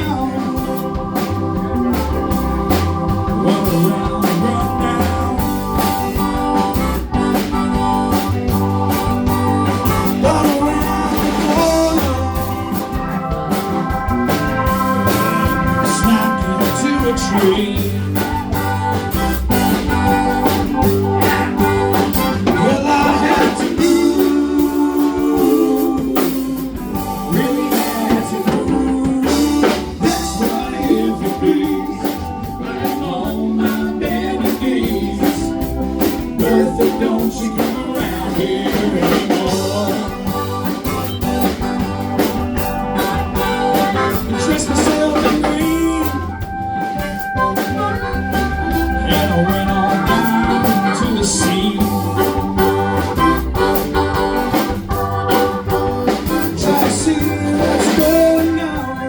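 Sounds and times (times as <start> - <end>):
person singing: 0.0 - 41.2, 41.8 - 54.7, 55.3 - 59.0
live blues band playing: 0.0 - 59.0.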